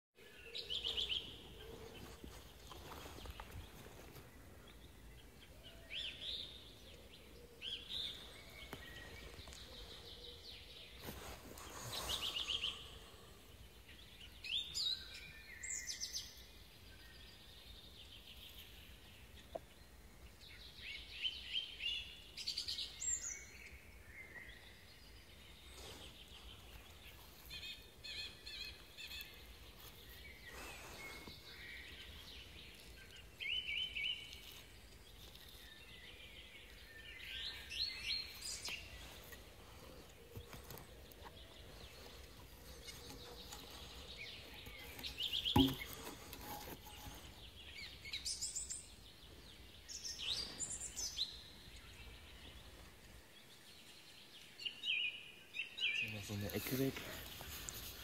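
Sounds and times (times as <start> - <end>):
small birds chirping: 0.2 - 58.0.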